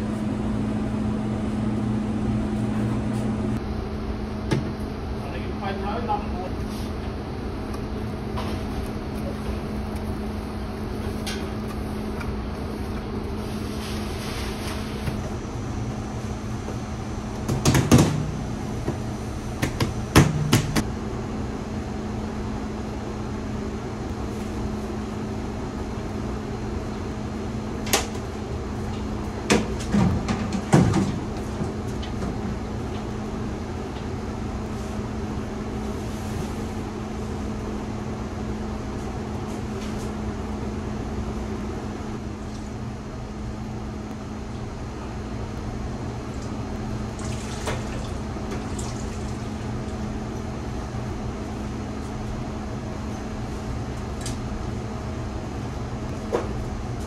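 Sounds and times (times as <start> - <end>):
kitchen machinery humming: 0.0 - 57.0.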